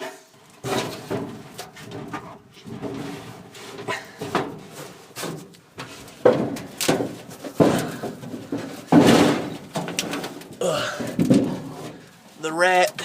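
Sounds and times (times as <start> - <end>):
knocks and scrapes on furnace ductwork: 0.0 - 13.0.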